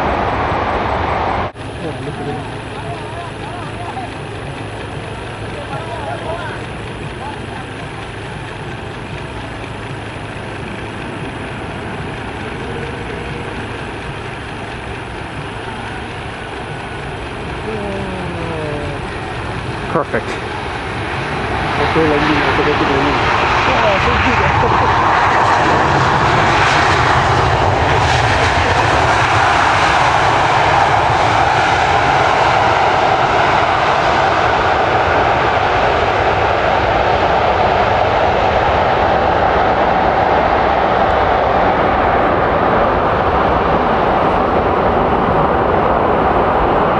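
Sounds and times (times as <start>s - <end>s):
distant jet engines rumbling: 0.0s - 46.9s.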